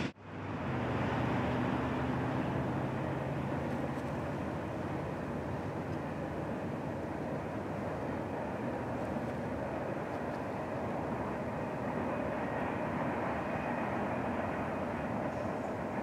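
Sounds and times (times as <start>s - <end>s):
distant freight train rumbling: 0.0s - 16.0s.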